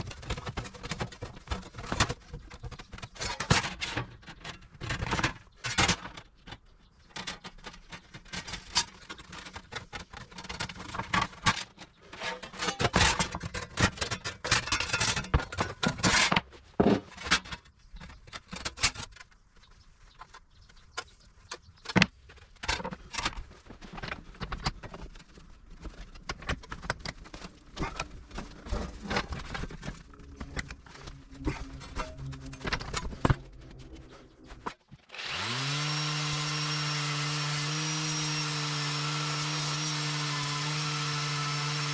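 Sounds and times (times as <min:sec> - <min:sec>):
tools clicking and scraping on sheet steel: 0:00.0 - 0:19.5, 0:20.1 - 0:36.7.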